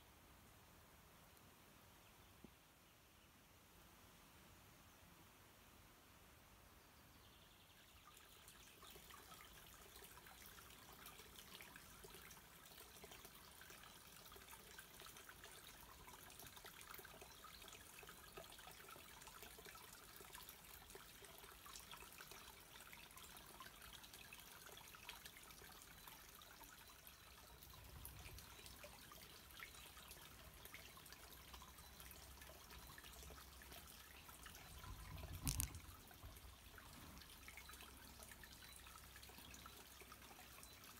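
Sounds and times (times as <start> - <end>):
stream trickling over stones: 7.3 - 40.9.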